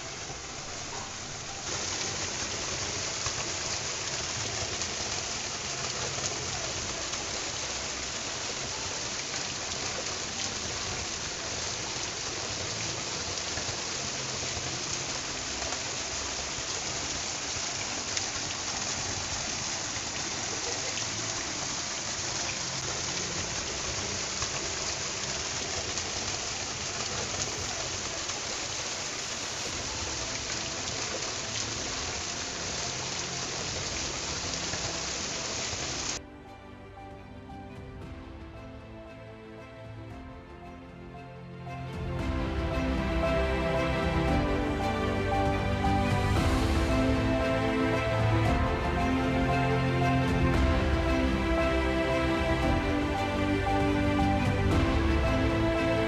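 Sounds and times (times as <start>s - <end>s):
waterfall rushing: 0.0s - 36.2s, 41.5s - 56.0s.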